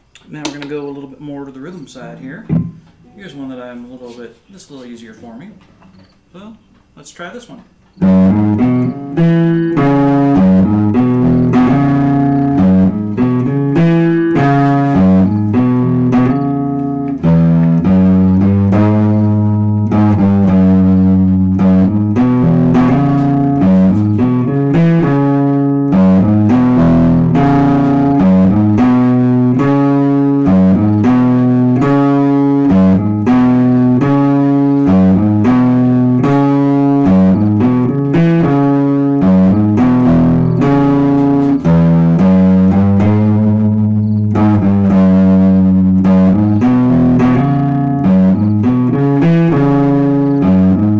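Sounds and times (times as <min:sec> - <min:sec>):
clean electric guitar: 0:00.0 - 0:03.8, 0:08.0 - 0:50.9.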